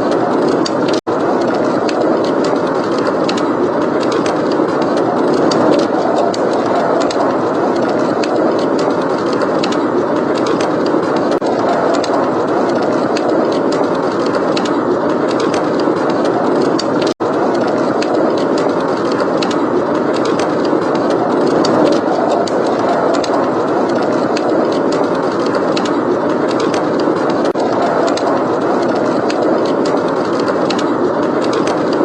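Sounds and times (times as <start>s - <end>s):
snowstorm wind blowing: 0.0s - 32.0s
wood fire crackling: 0.0s - 32.0s.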